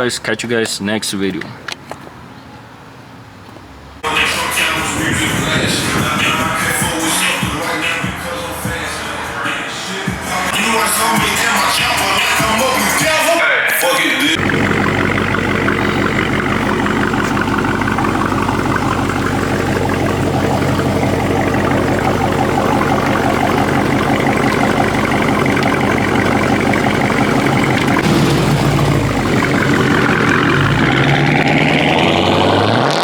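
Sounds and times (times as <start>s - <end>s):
truck engine idling: 4.0s - 13.3s, 14.3s - 32.6s.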